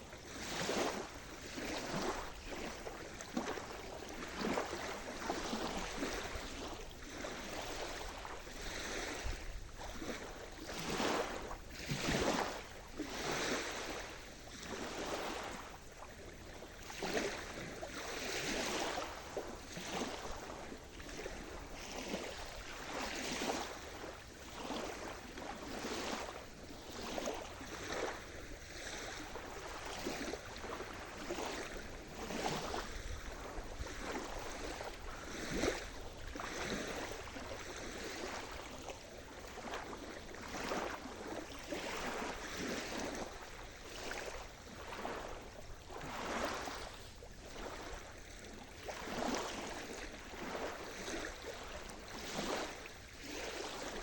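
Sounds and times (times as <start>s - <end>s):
small waves breaking: 0.0s - 54.0s.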